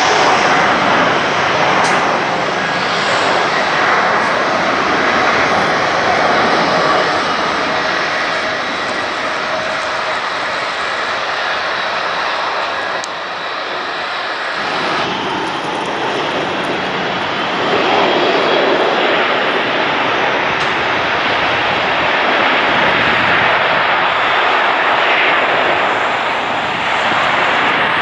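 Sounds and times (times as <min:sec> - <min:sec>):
airliner approaching to land: 0:00.0 - 0:28.0
jet engine noise: 0:00.0 - 0:28.0.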